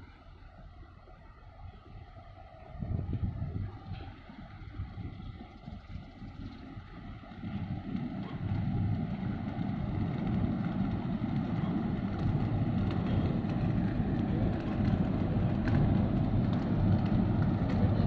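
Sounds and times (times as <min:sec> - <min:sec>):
wind buffeting microphone: 0:01.8 - 0:18.0.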